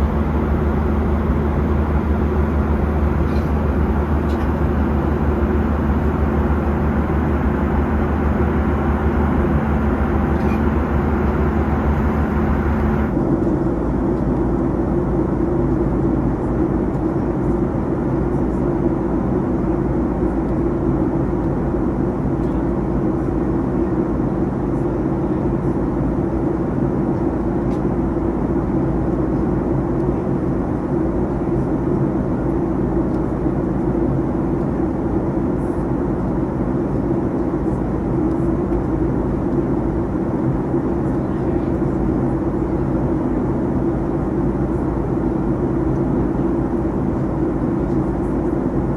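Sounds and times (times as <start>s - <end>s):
airplane cabin engine hum: 0.0s - 48.9s.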